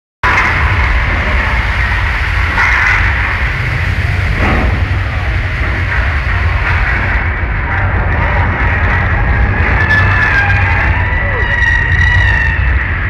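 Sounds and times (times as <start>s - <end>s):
deep rumble: 0.2s - 13.0s.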